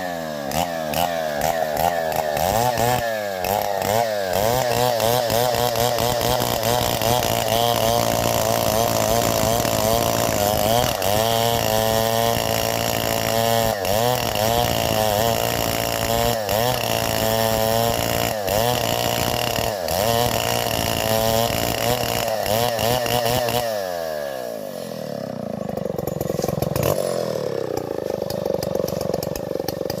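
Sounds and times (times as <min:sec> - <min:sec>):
chainsaw running at high revs: 0:00.0 - 0:30.0.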